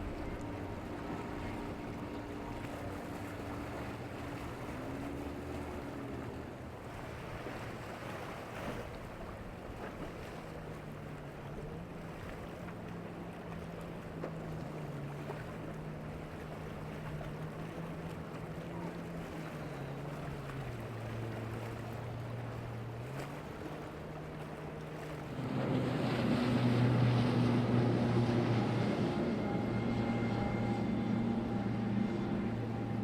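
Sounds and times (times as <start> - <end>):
motorboat engines running: 0.0 - 33.0
rush of water and spray: 0.0 - 33.0.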